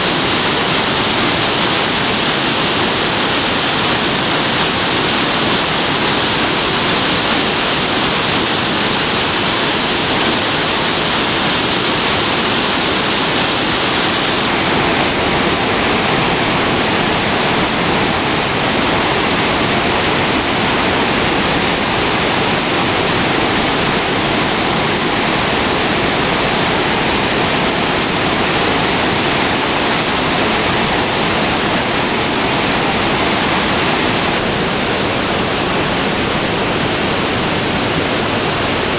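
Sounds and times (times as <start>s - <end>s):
roar of rushing whitewater: 0.0s - 38.9s.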